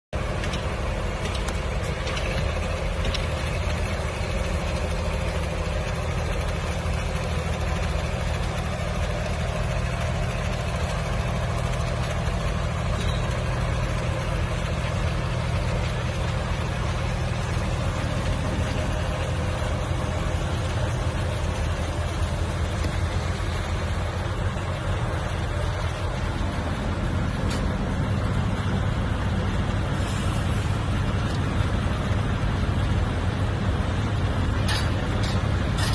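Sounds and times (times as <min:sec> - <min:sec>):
crane diesel engine humming: 0:00.2 - 0:35.9.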